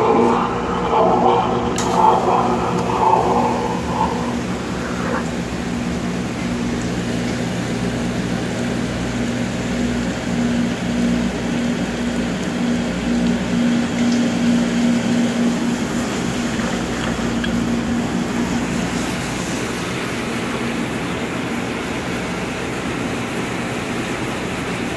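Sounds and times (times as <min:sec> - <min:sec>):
electric motor hum: 0:00.0 - 0:20.2
dishwasher water rushing: 0:00.0 - 0:24.9.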